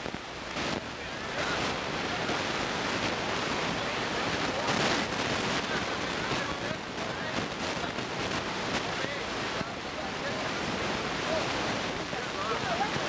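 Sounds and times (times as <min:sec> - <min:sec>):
faint voices: 0:00.0 - 0:13.0
wind on microphone: 0:00.0 - 0:13.0.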